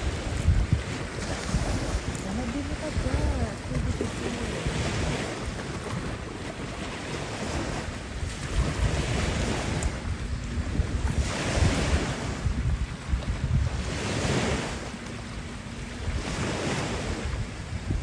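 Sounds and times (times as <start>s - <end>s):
small waves washing on rocks: 0.0s - 17.4s
wind buffeting microphone: 0.0s - 18.0s.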